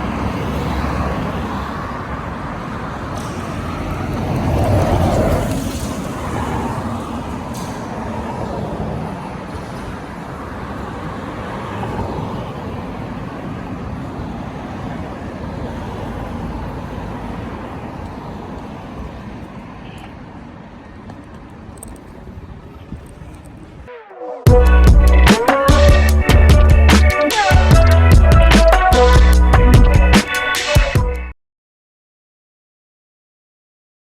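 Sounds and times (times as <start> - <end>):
city traffic and road noise: 0.0 - 31.4.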